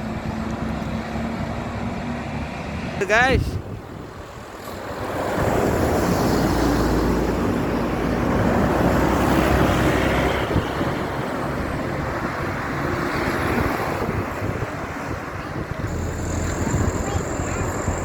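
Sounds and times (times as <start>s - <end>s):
bus driving past: 0.0s - 18.0s.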